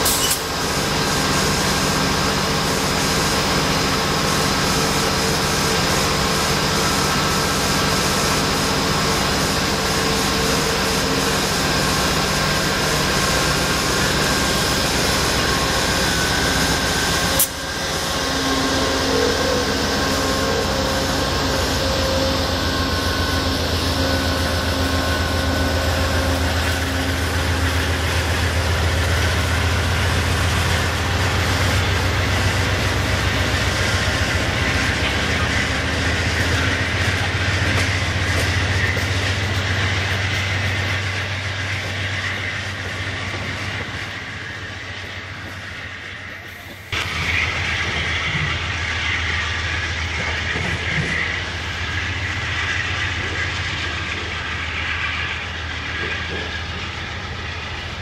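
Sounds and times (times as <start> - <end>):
deep engine drone: 0.0 - 58.0
diesel locomotives running: 0.0 - 58.0.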